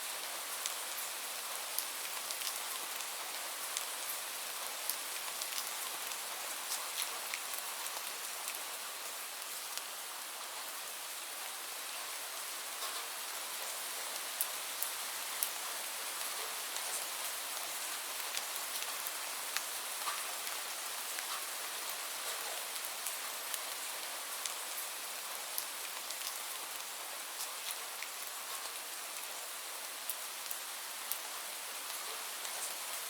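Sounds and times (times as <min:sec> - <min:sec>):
steady rain hiss: 0:00.0 - 0:33.0
raindrops ticking on a surface: 0:00.1 - 0:10.7, 0:12.7 - 0:33.0.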